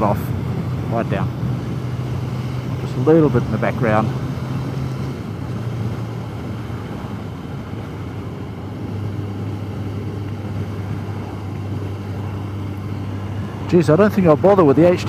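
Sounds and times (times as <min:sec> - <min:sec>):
motorcycle engine droning: 0:00.0 - 0:15.0
wind and road noise: 0:00.0 - 0:15.0.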